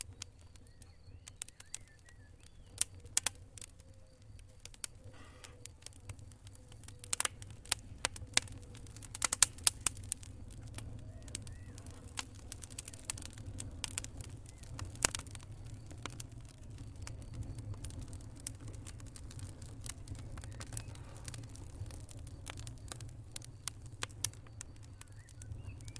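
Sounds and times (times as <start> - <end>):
low rumble of burning: 0.0 - 25.9
wood fire crackling: 0.0 - 25.9.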